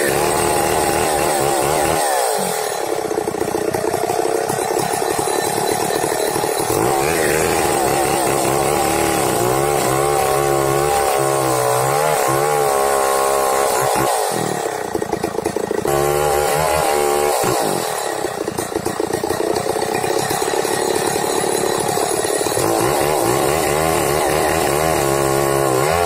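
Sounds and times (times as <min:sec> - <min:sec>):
chainsaw cutting tree trunk: 0:00.0 - 0:26.0.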